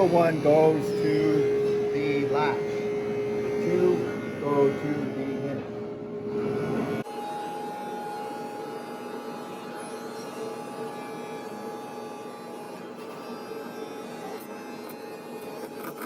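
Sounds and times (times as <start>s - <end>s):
constant held tones: 0.0s - 16.0s
steady hum: 0.0s - 16.0s.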